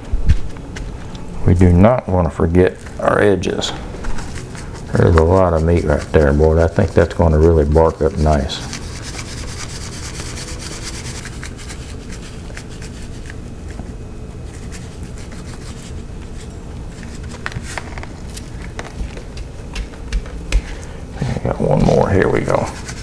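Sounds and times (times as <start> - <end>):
steady low hum: 0.0 - 23.0
hands scratching and patting meat: 2.8 - 23.0.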